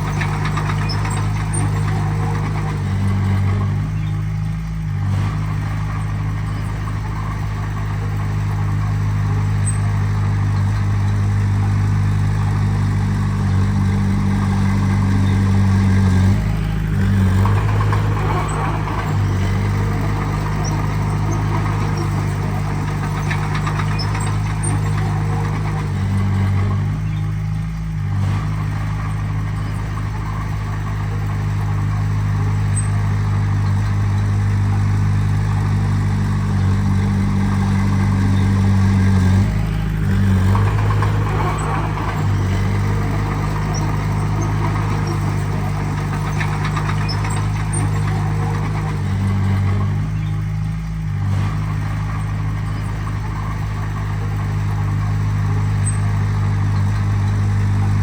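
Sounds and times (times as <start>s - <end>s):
heavy diesel engine running: 0.0s - 58.0s
rough working machinery noise: 0.0s - 58.0s.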